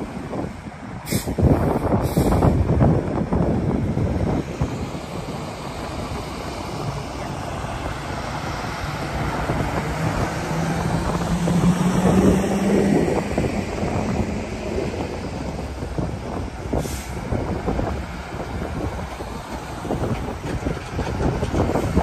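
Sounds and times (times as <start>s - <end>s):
trucks engine and tyre rumble: 0.0s - 22.0s.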